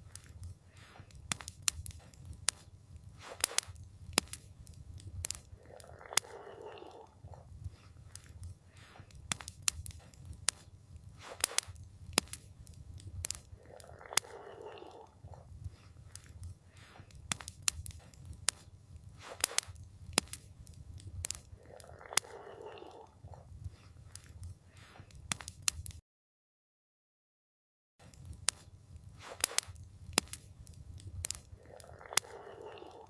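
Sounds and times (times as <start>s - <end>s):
campfire crackling and popping: 0.0s - 26.0s, 28.0s - 33.0s.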